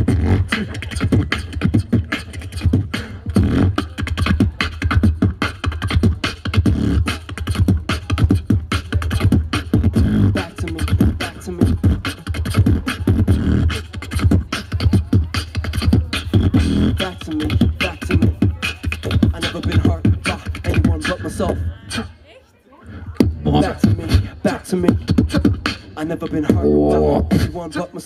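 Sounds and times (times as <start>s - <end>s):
beatboxing through a pa: 0.0s - 22.2s, 22.8s - 28.0s.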